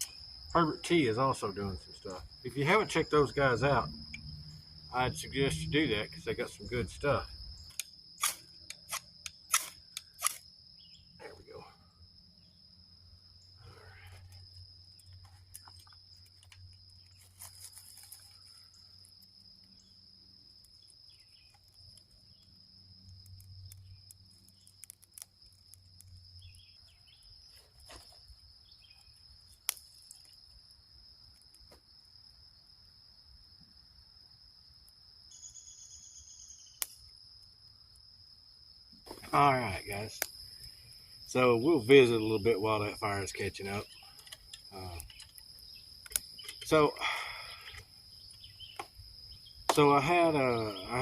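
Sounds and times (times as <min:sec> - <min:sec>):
campfire crackling: 0:00.0 - 0:35.7, 0:36.7 - 0:51.0
insect drone: 0:00.0 - 0:51.0.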